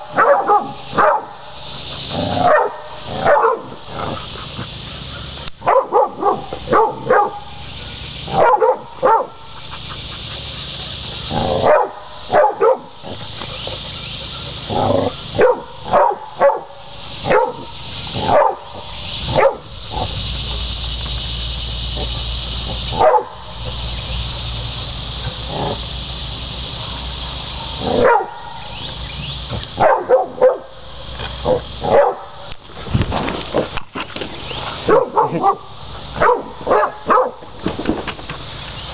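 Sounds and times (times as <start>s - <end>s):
dogs barking: 0.0s - 21.2s, 21.9s - 25.9s, 26.7s - 32.5s, 34.8s - 37.6s
steady hiss: 0.0s - 38.9s.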